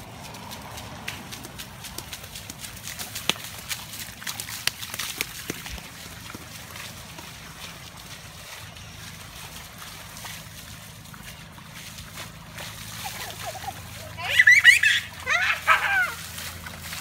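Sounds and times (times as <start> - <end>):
bare feet splashing in water: 0.0 - 17.0.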